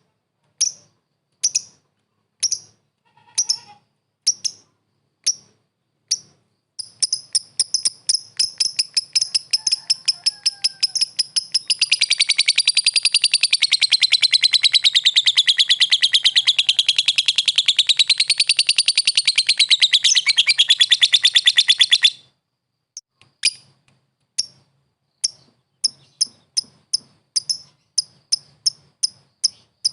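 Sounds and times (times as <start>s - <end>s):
lovebird chirping and trilling: 3.4s - 22.3s, 23.4s - 23.8s, 25.2s - 29.9s.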